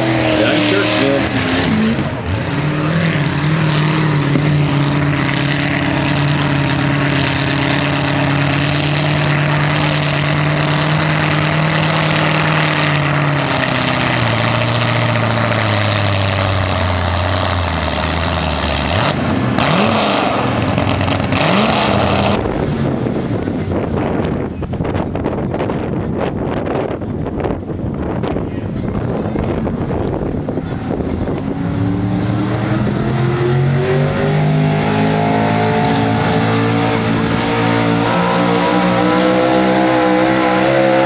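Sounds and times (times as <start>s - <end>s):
truck engine at high revs: 0.0s - 41.0s.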